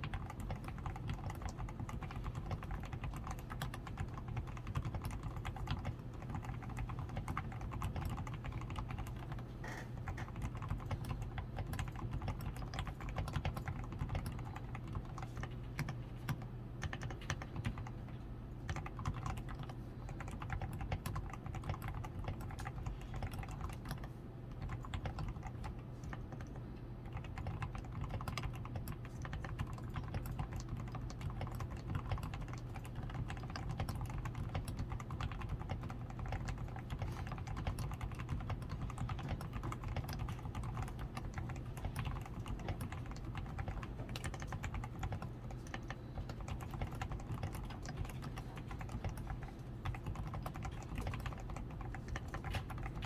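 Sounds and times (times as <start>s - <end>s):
fast mechanical keyboard typing: 0.0s - 53.0s.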